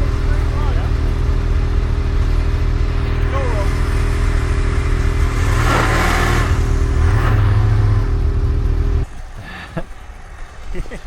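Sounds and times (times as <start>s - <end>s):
snowmobile engine under throttle: 0.0s - 9.0s.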